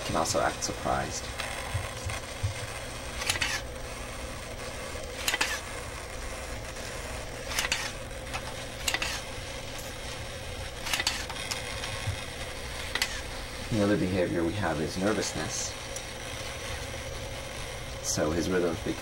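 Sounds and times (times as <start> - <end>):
small gear motors whirring: 0.0 - 19.0
steady electrical hum: 0.0 - 19.0.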